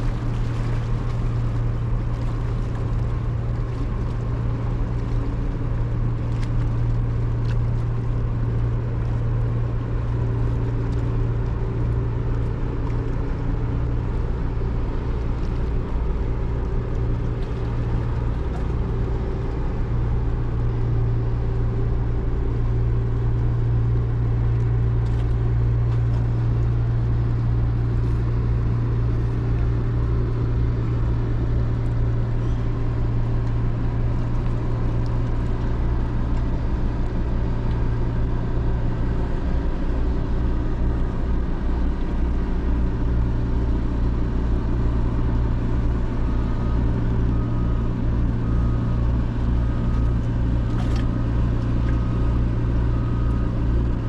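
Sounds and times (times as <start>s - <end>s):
ship engines droning: 0.0s - 54.0s.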